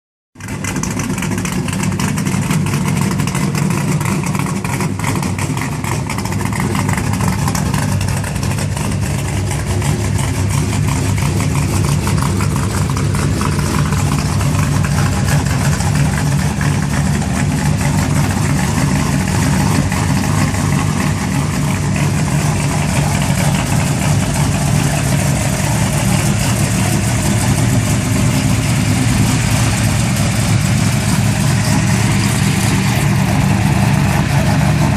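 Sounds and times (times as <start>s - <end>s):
vehicle engine idling: 0.4s - 34.9s.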